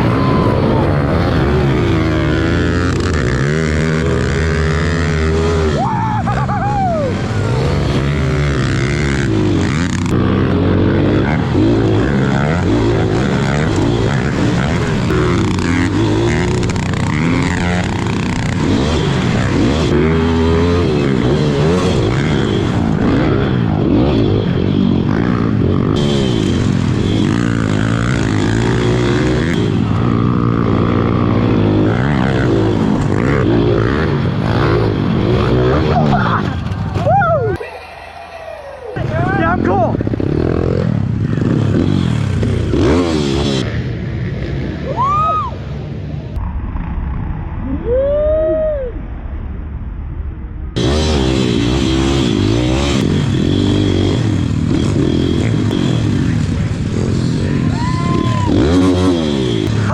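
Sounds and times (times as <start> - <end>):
pit bike engines revving: 0.0 - 46.9, 50.7 - 59.9.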